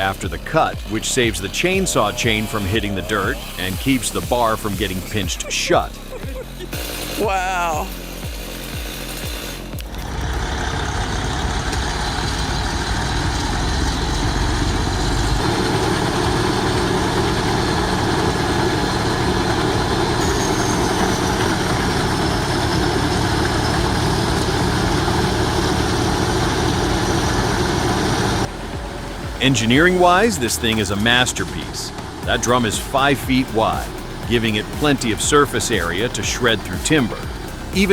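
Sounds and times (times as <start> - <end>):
heavy machine engine running: 0.0 - 37.9.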